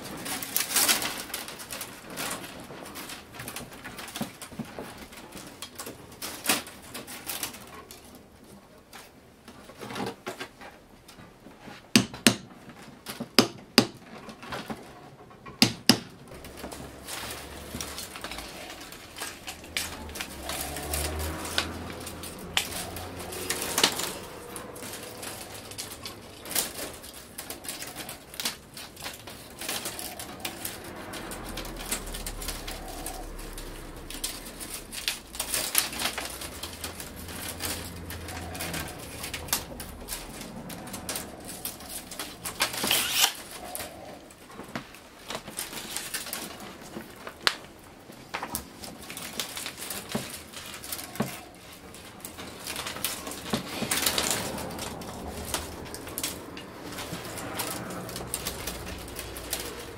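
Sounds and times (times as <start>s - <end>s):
bamboo strips clicking and rustling: 0.0s - 59.9s.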